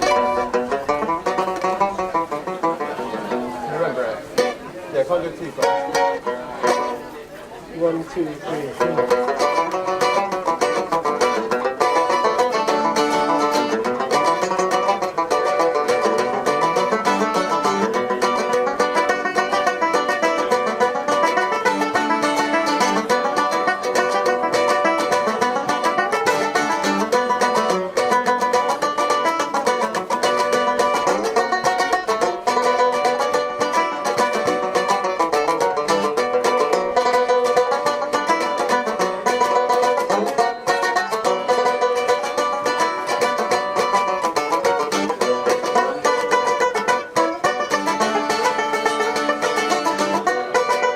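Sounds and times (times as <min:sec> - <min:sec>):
plucked string picking: 0:00.0 - 0:50.9
live band playing fast tune: 0:07.8 - 0:50.9.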